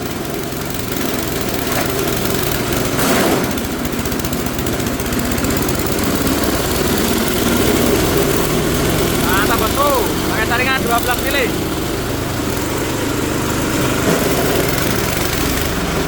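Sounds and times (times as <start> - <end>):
chopper-grinder shredding fronds: 0.0 - 16.0.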